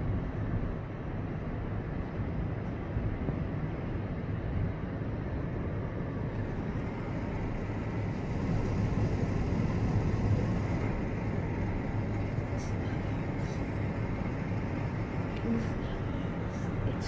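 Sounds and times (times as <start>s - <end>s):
faint steady hum: 0.0s - 17.0s
low outdoor rumble: 0.0s - 17.0s.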